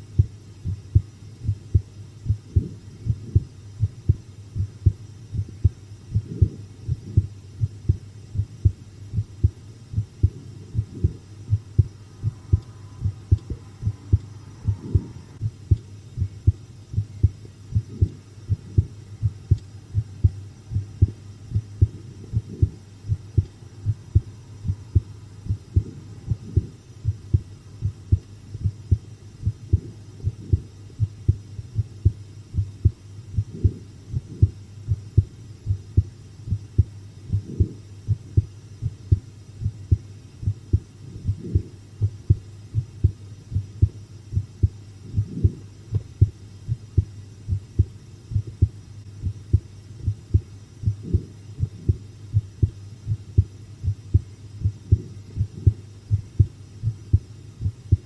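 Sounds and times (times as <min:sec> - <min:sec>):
constant low hum: 0:00.0 - 0:58.0
heartbeat thumps: 0:00.0 - 0:58.0.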